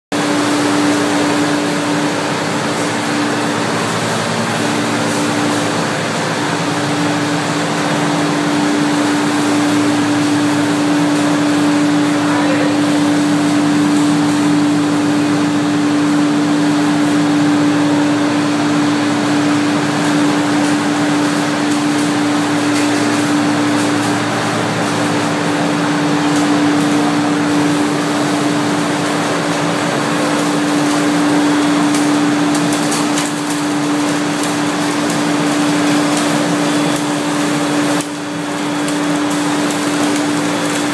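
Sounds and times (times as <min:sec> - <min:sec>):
machinery humming loudly: 0:00.1 - 0:40.9.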